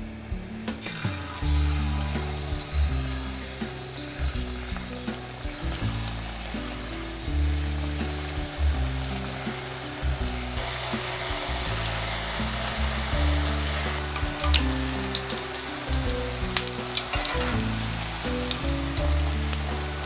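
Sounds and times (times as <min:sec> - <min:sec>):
background music with bass: 0:00.0 - 0:20.0
batter deep-frying in oil: 0:00.3 - 0:20.0.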